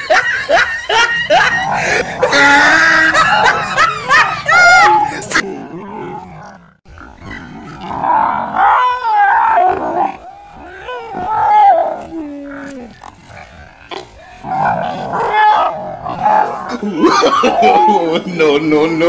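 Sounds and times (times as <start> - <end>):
dog snarling and growling: 1.3 - 17.7.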